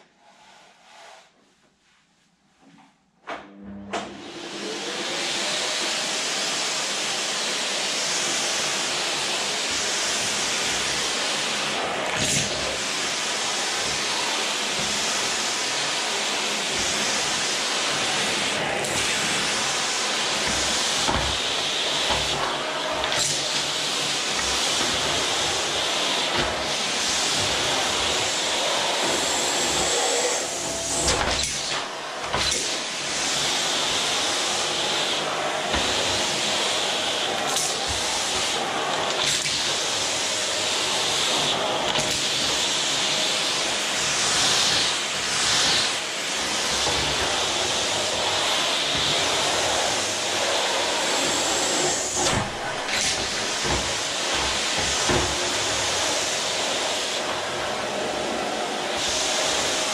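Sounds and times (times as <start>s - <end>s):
vacuum cleaner running: 3.3s - 59.9s.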